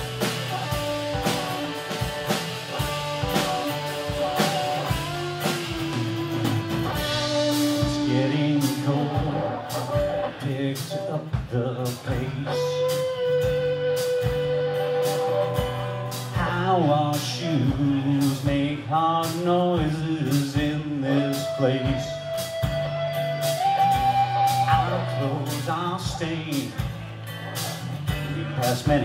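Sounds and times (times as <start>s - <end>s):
drum kit beat: 0.0s - 29.0s
electric guitar lead: 0.0s - 29.0s
strummed acoustic guitar: 0.0s - 29.0s.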